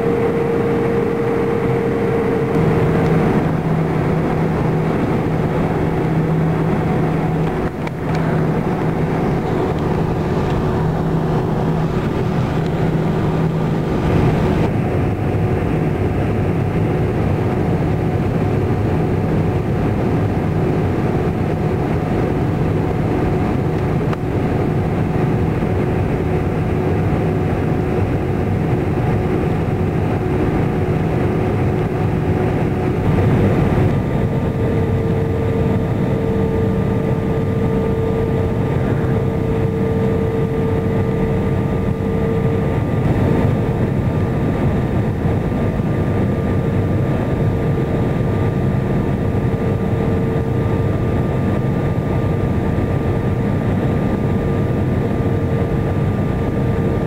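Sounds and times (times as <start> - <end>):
aircraft cabin engine noise: 0.0 - 57.0.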